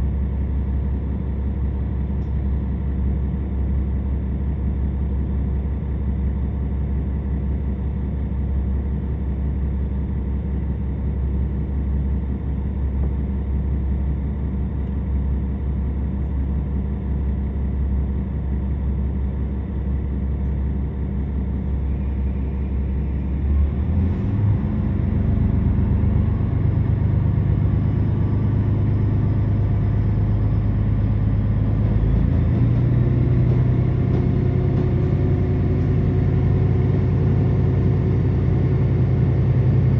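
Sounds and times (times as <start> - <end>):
diesel railcar engine running: 0.0 - 39.9.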